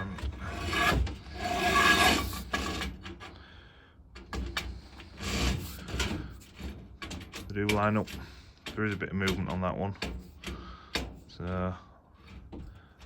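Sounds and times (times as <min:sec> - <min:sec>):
metal scraping against metal: 0:00.0 - 0:03.5, 0:04.2 - 0:11.4.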